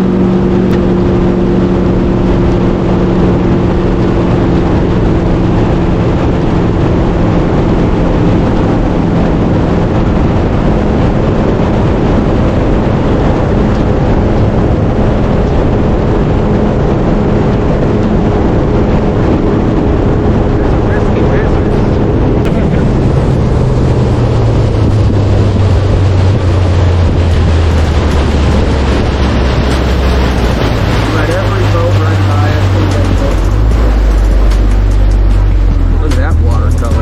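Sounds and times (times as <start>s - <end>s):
loud rushing noise: 0.0s - 37.0s
vehicle engine running: 0.0s - 37.0s.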